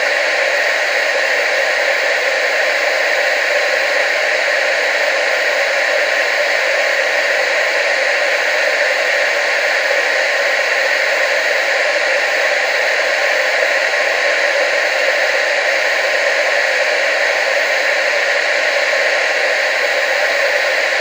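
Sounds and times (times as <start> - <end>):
tv static hiss: 0.0 - 21.0.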